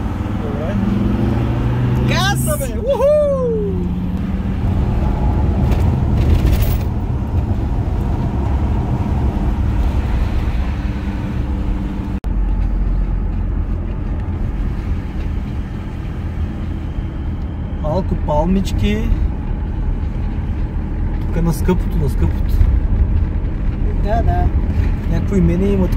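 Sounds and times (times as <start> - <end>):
car engine hum and road rumble: 0.0 - 25.9.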